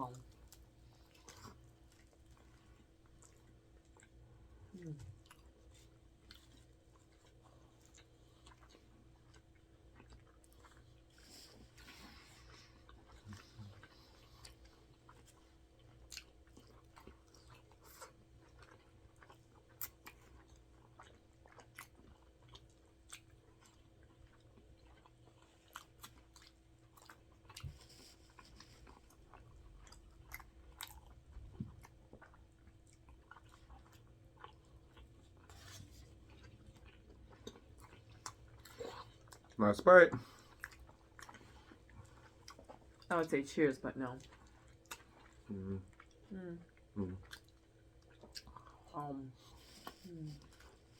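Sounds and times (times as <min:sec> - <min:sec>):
chewing food: 0:00.0 - 0:50.9
low steady hum: 0:00.0 - 0:50.9.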